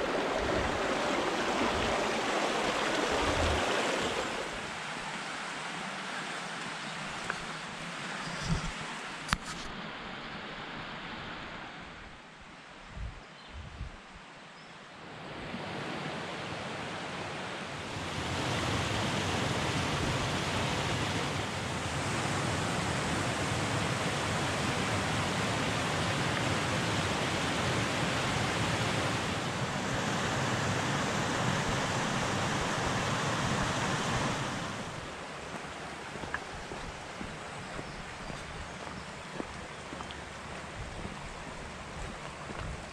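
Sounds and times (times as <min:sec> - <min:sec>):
stream rushing over ledges: 0:00.0 - 0:12.6, 0:15.4 - 0:42.9.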